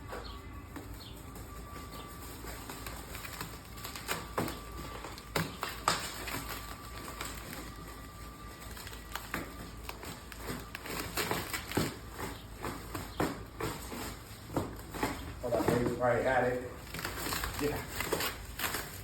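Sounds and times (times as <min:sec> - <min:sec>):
cardboard box packaging crackling: 0:00.0 - 0:19.0.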